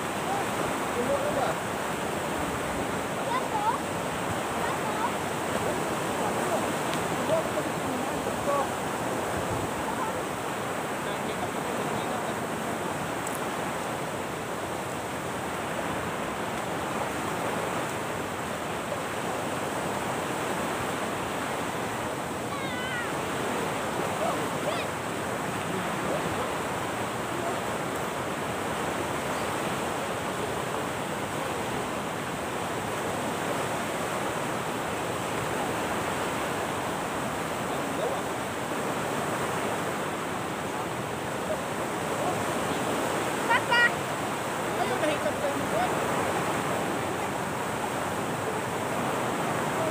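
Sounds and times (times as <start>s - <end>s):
surf washing on sandy beach: 0.0s - 49.9s.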